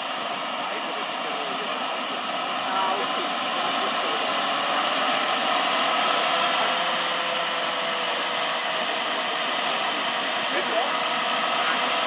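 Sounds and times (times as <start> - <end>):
model helicopter turbine engine running: 0.0 - 12.0.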